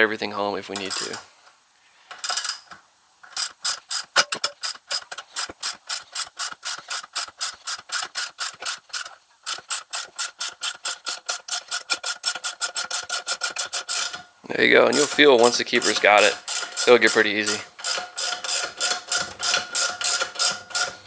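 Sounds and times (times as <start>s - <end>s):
ratchet wrench clicking: 0.8s - 1.2s, 2.1s - 14.2s, 14.9s - 21.0s.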